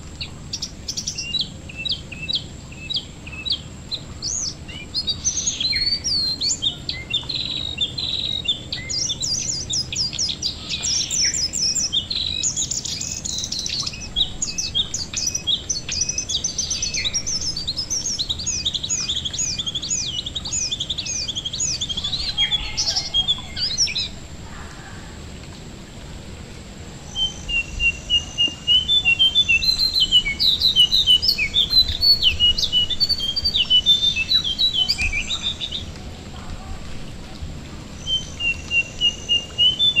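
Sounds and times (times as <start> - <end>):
songbird singing: 0.0 - 25.6, 26.5 - 40.0
light rain pattering on water: 0.0 - 40.0.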